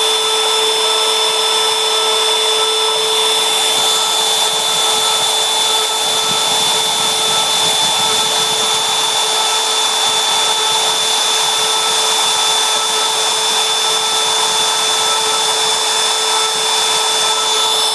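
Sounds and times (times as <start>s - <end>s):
router spindle high whine: 0.0s - 17.9s.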